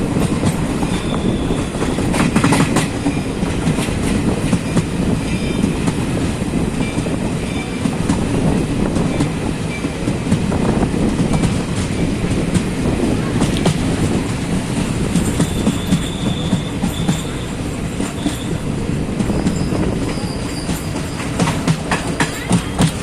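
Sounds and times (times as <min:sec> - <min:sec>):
train wheels rumbling on rails: 0:00.0 - 0:23.0
clacks over rail joints: 0:00.1 - 0:06.1, 0:06.8 - 0:23.0.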